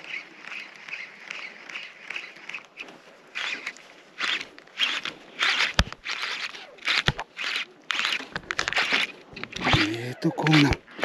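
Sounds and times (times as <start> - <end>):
fishing reel whirring: 0.0 - 11.0.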